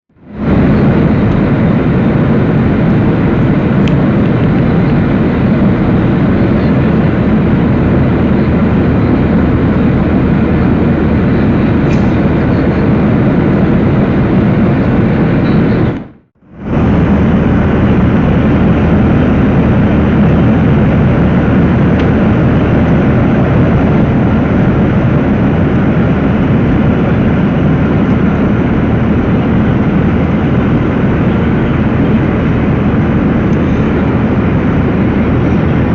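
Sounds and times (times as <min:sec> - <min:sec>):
aircraft engine and airflow noise: 0:00.1 - 0:35.9
steady low hum: 0:00.1 - 0:35.9.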